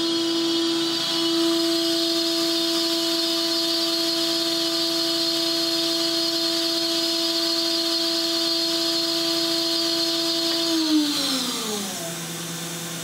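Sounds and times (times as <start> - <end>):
machine spindle whine: 0.0 - 13.0.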